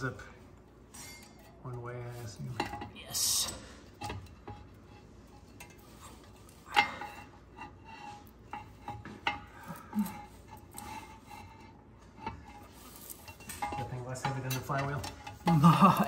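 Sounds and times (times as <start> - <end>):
metal plate clinking and scraping: 0.9 - 16.0.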